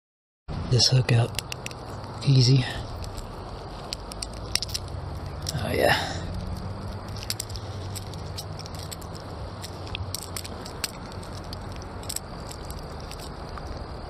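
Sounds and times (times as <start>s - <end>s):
steady low rumble: 0.5s - 14.0s
handling clicks and rattles: 1.1s - 14.0s.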